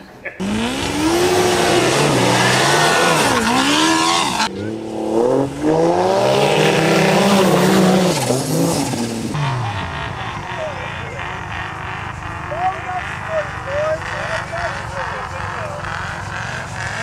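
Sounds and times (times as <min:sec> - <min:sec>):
engine revving hard: 0:00.4 - 0:17.0.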